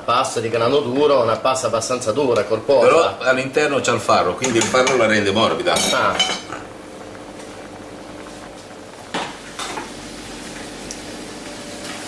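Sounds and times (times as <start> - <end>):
pasta water boiling: 0.0 - 12.0.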